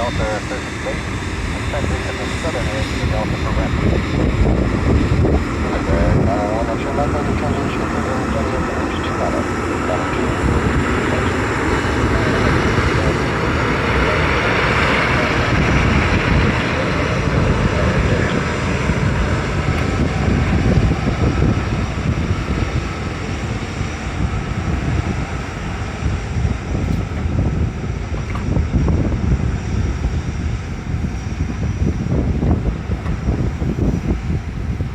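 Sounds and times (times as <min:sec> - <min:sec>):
jet engines rumbling: 0:00.0 - 0:34.9
wind noise on microphone: 0:00.0 - 0:34.9.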